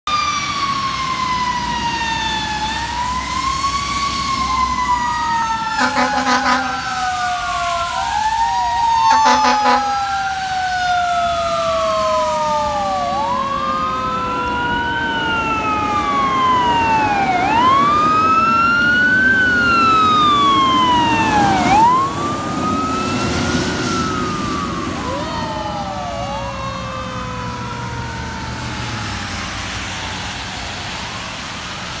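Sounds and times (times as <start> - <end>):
fire engine siren wailing: 0.1 - 32.0
lower siren tone: 0.1 - 32.0
road noise on wet pavement: 0.1 - 32.0.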